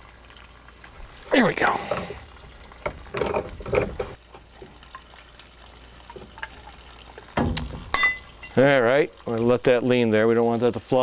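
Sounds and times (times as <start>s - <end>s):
water trickling from a hose: 0.0s - 11.0s.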